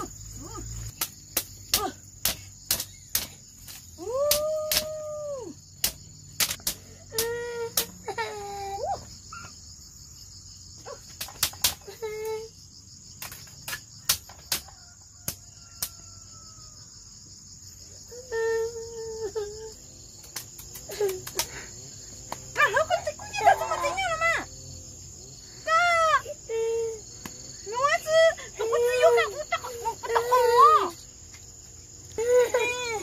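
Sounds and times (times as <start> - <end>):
insect chorus: 0.0 - 33.0.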